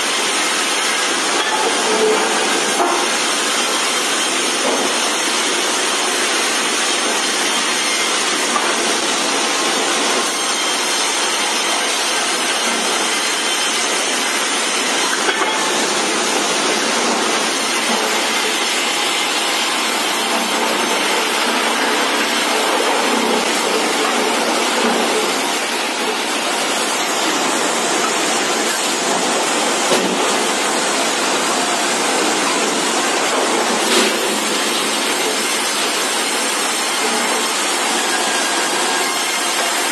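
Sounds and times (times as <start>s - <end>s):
band saw cutting a log: 0.0s - 39.9s
feed rollers running: 0.0s - 39.9s.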